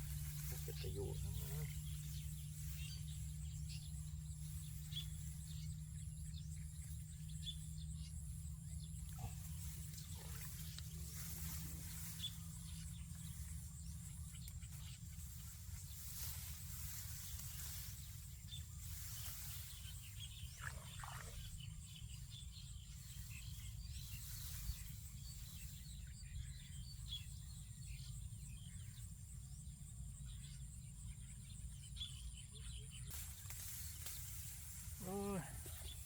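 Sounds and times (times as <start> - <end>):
low steady rumble: 0.0 - 31.9.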